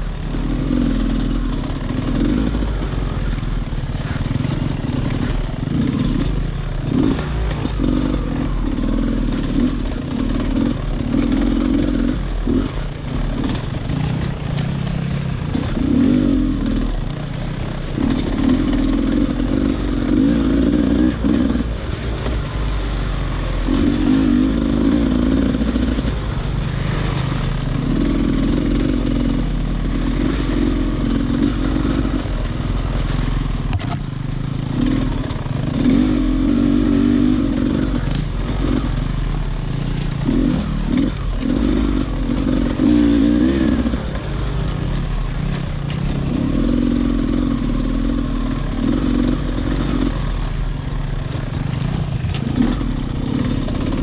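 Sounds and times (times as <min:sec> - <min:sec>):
dirt bike engine revving: 0:00.0 - 0:33.9, 0:34.5 - 0:54.0.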